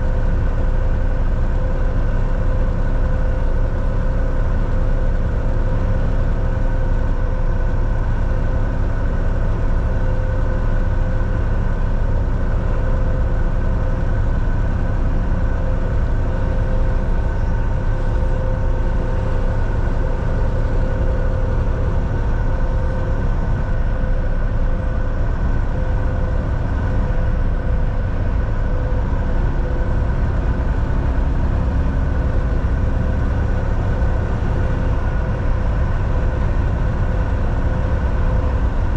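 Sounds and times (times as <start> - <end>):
road rumble: 0.0 - 38.9
truck engine drone: 0.0 - 38.9.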